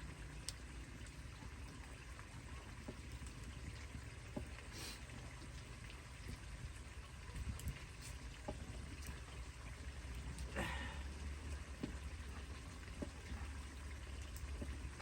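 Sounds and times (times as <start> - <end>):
small drips and clicks: 0.0 - 15.0
watery patter: 0.0 - 15.0.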